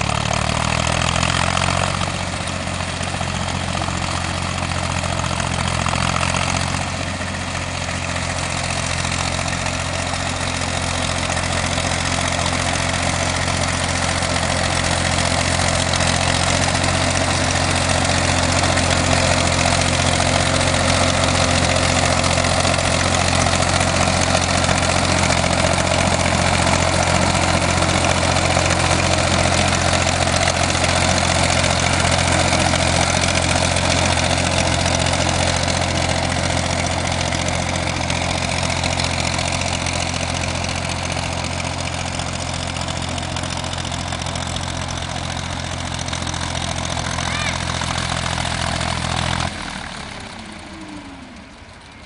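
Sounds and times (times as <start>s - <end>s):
tractor diesel engine drone: 0.0s - 52.0s.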